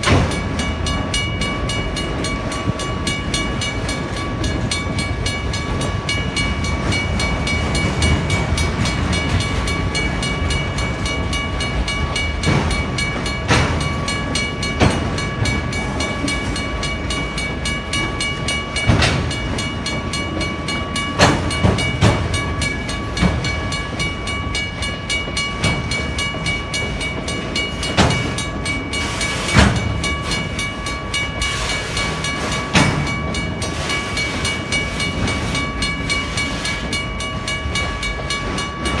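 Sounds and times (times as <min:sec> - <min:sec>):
crossing bell ringing: 0:00.0 - 0:39.0
low train rumble: 0:00.0 - 0:39.0
train wheels clacking over rail joints: 0:00.0 - 0:39.0.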